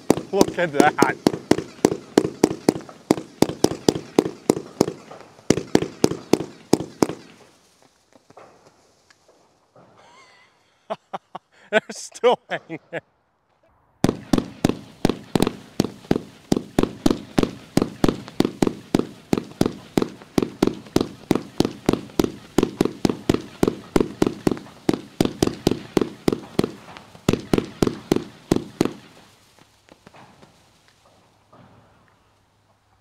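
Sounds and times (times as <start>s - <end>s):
fireworks sharp reports: 0.0s - 8.6s, 11.6s - 12.9s, 13.8s - 31.7s.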